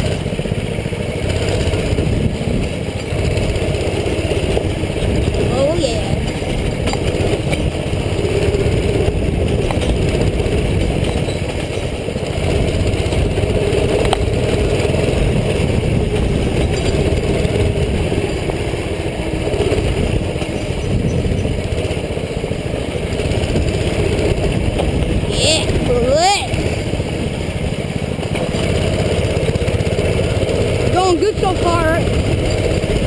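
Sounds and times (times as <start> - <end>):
mini bike engine running: 0.0 - 33.0.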